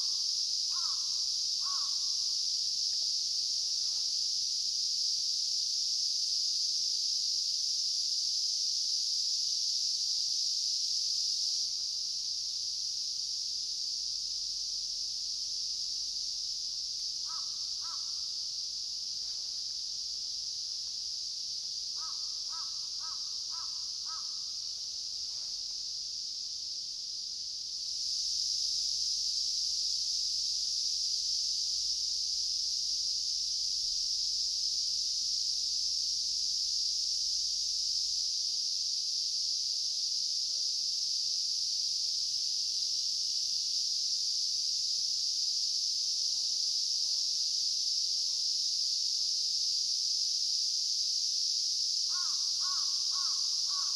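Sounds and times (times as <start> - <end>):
cicadas droning: 0.0 - 53.9.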